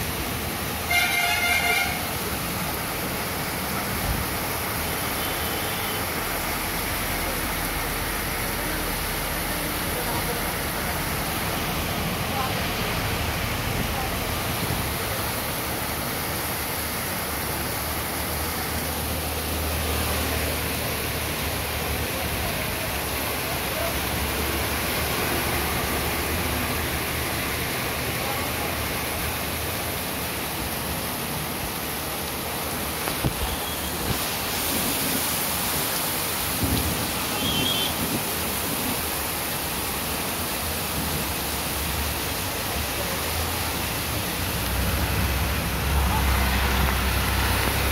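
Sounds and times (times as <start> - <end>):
heavy rain on wet street: 0.0 - 47.9
water pouring off roof: 0.0 - 47.9.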